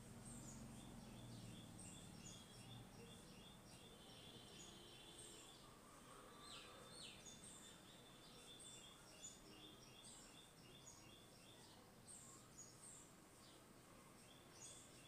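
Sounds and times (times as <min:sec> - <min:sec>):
faint high chirps: 0:00.3 - 0:15.0.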